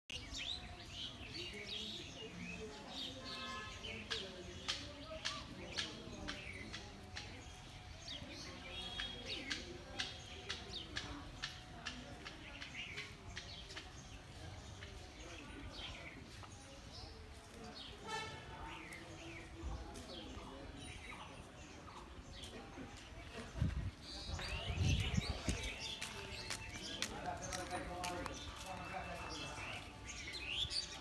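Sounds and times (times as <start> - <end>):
small birds chirping: 0.1 - 31.0.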